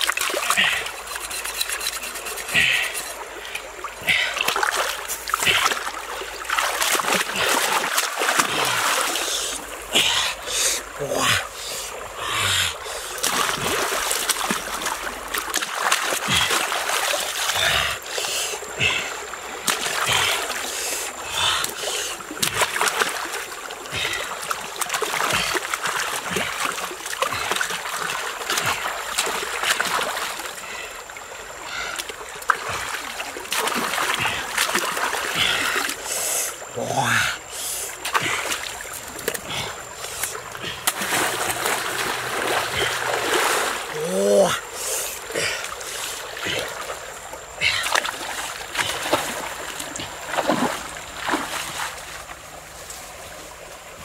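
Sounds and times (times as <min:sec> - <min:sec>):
water splashing and sloshing: 0:00.0 - 0:54.0.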